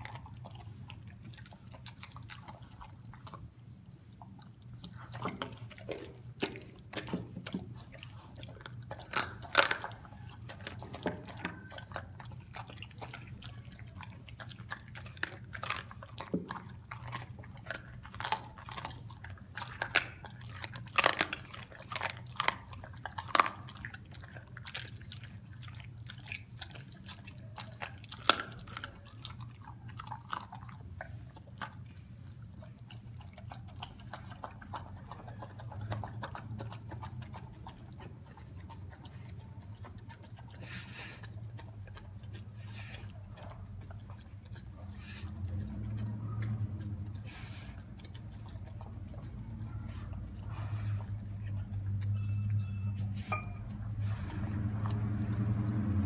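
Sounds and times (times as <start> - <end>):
dog crunching meat and bone: 0.0 - 56.0
dog licking and slurping: 0.0 - 56.0.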